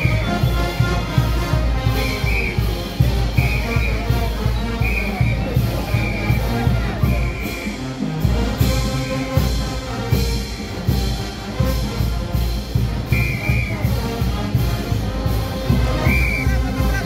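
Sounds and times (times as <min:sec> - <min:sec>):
brass band playing: 0:00.0 - 0:17.0
drum beat: 0:00.0 - 0:17.0.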